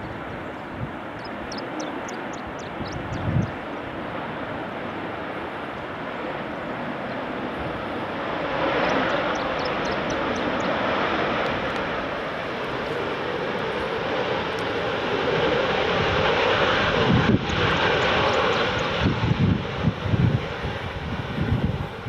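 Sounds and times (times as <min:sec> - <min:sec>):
airliner engines running: 0:00.0 - 0:22.0.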